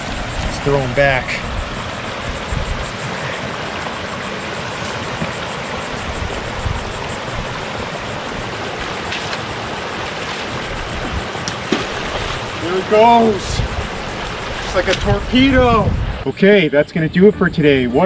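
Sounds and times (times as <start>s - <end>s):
creek water rushing over dam: 0.0s - 15.5s.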